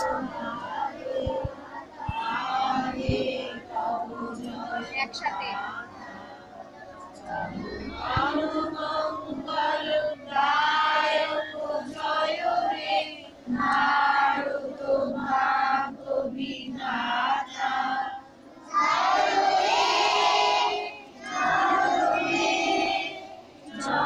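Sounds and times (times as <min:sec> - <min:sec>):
children and women singing: 0:00.0 - 0:24.0.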